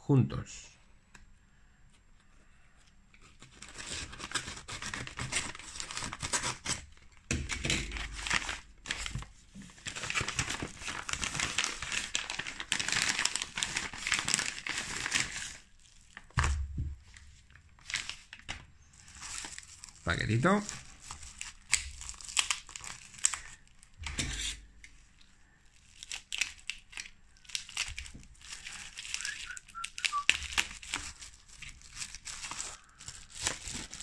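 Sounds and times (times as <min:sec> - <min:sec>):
paper and plastic crinkling: 0:03.2 - 0:34.0.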